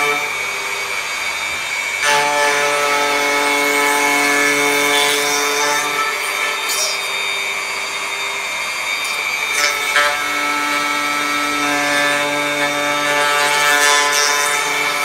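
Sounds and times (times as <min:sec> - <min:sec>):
cutter rasping in wood: 0:00.0 - 0:15.0
electric planer motor running: 0:00.0 - 0:15.0.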